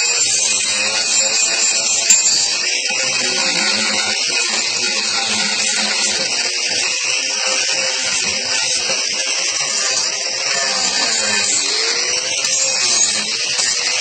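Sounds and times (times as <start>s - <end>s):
angle grinder grinding wood: 0.0s - 14.0s.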